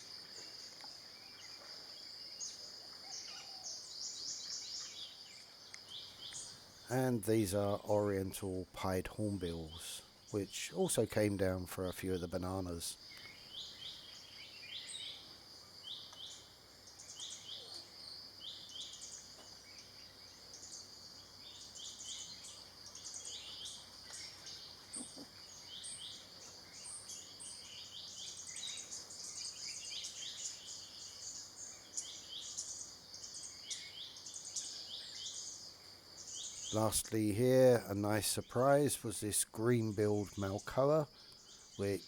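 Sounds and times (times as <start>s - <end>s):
insect whine: 0.0s - 42.0s
small birds chirping: 0.0s - 42.0s.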